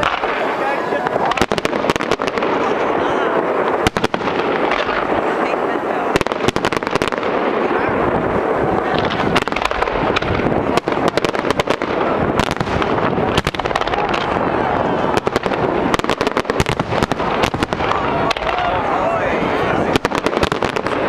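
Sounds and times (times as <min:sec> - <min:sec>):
background rumble: 0:00.0 - 0:21.0
fireworks bangs: 0:00.0 - 0:21.0.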